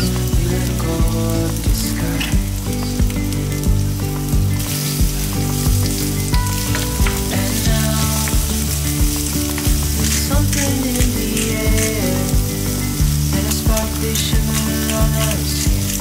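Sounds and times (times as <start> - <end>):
background music with steady beat: 0.0 - 16.0
onions sizzling in a frying pan: 0.0 - 16.0.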